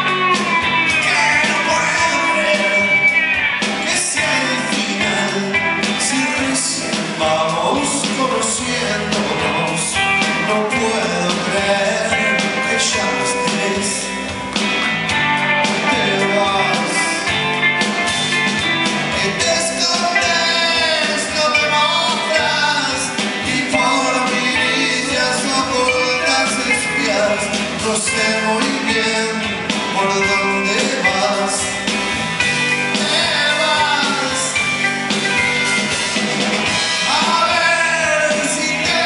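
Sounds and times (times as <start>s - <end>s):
man singing: 0.0s - 14.5s, 15.6s - 17.5s, 19.0s - 32.0s, 32.6s - 34.9s, 36.8s - 39.0s
drums: 0.0s - 39.0s
electric guitars: 0.0s - 39.0s.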